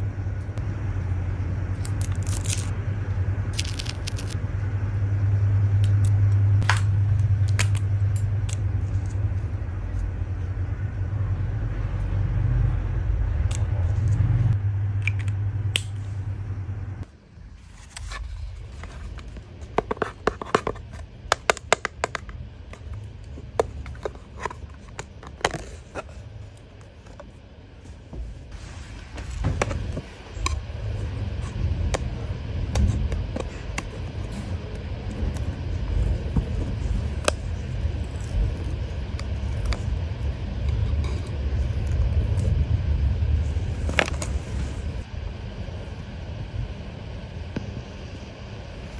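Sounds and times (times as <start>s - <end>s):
low electric hum: 0.0s - 48.9s.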